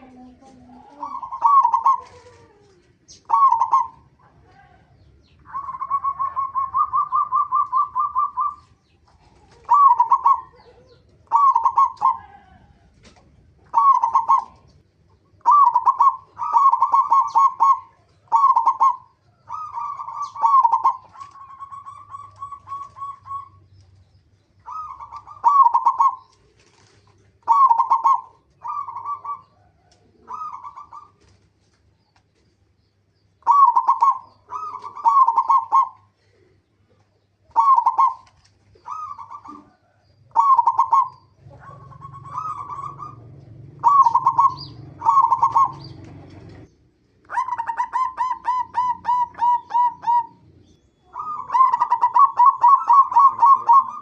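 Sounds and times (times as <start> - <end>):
dove cooing: 0.0 - 23.8, 24.6 - 31.5, 33.4 - 54.0.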